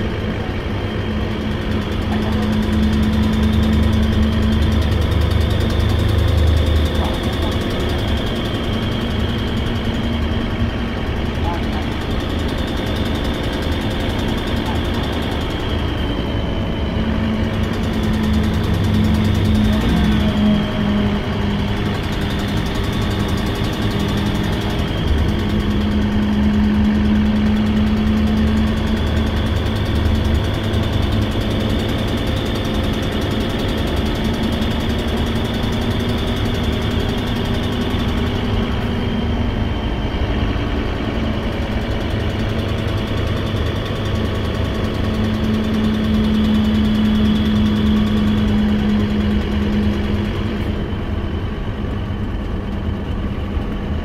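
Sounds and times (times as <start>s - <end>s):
bus diesel engine running: 0.0s - 54.0s
loud exhaust: 0.0s - 54.0s.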